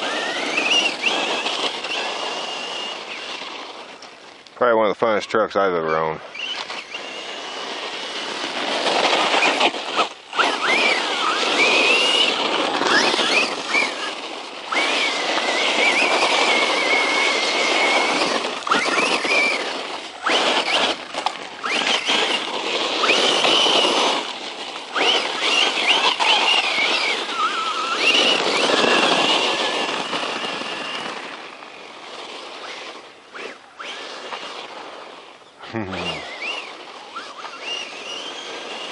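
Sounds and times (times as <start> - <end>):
electric motor whining: 0.0 - 4.4, 5.2 - 38.9
tyre and drivetrain rush: 0.0 - 38.9.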